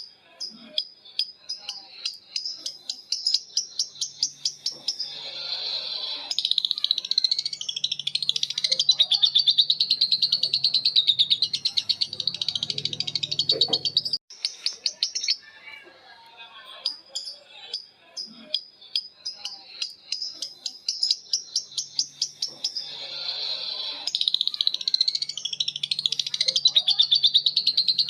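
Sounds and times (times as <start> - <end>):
bird chirps: 0.0 - 15.9, 16.7 - 28.0
lovebirds trilling: 0.0 - 15.9, 16.7 - 28.0.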